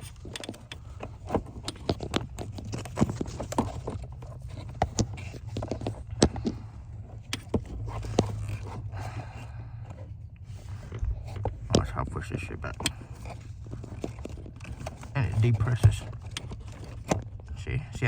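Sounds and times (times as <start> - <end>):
brake pedal clicks and taps: 0.0 - 9.0, 9.8 - 17.5
low steady hum: 0.0 - 18.0.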